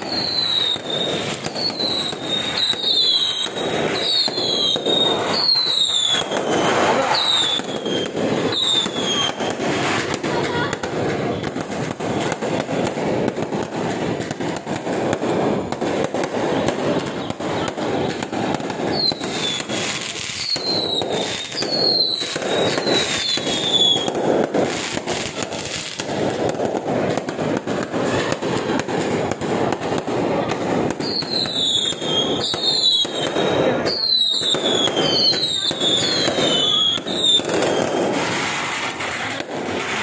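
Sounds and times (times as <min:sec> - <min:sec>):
fireworks pops and crackling: 0:00.0 - 0:40.0.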